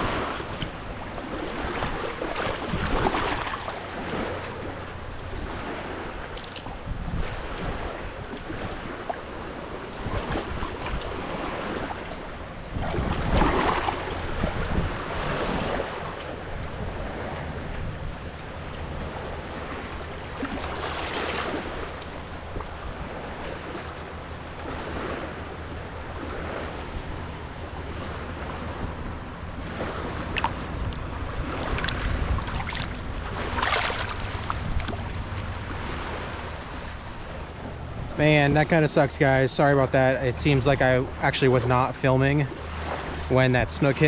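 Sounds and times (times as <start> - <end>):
shallow water sloshing: 0.0 - 44.0
wind buffeting microphone: 0.0 - 44.0.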